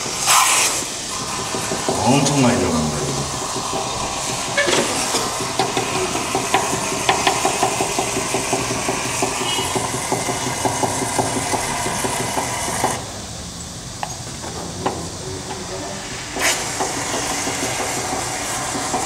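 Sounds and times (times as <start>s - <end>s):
foam gun spraying hiss: 0.0s - 13.2s, 14.0s - 19.0s.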